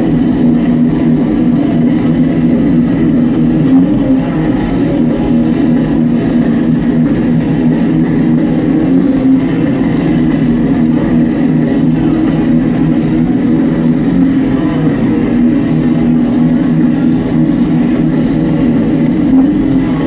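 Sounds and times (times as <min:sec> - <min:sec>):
distant live metal band: 0:00.0 - 0:20.0.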